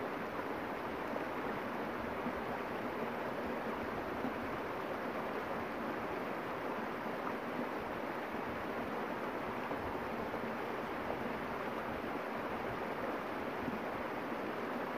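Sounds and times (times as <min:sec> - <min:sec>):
creek flowing: 0:00.0 - 0:14.9.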